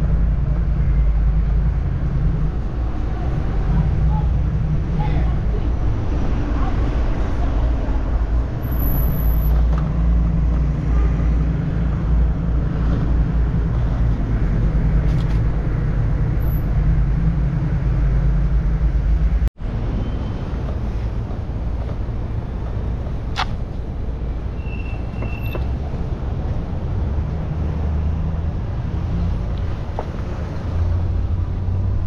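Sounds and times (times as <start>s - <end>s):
city street traffic rumble: 0.0s - 32.0s.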